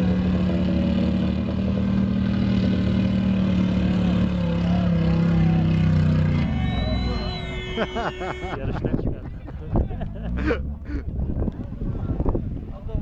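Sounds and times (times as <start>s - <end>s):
off-road vehicle engine running: 0.0s - 12.9s.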